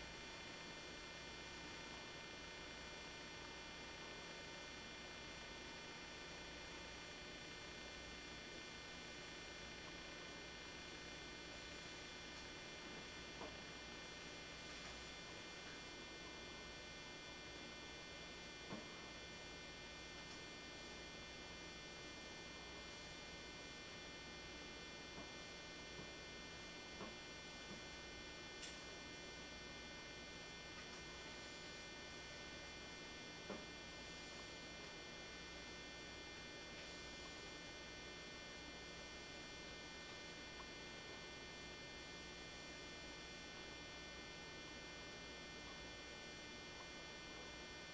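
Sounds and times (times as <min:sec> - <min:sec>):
electrical hum and buzz: 0:00.0 - 0:47.9.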